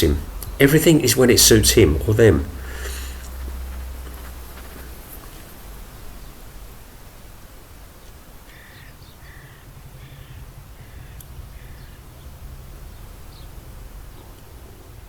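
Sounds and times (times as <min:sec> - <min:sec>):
bird calling: 0:00.0 - 0:06.3, 0:08.5 - 0:14.4
steady low rumble: 0:00.0 - 0:08.0, 0:09.4 - 0:15.0.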